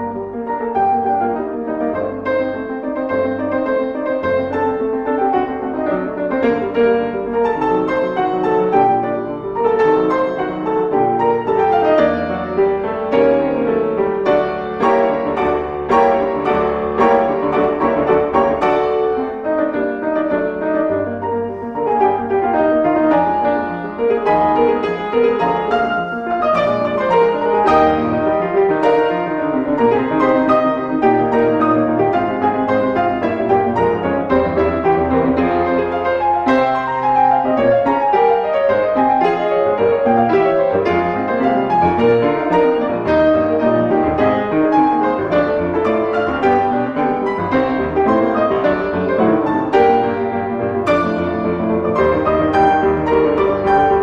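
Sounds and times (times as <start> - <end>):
solo classical piano: 0.0 - 54.0.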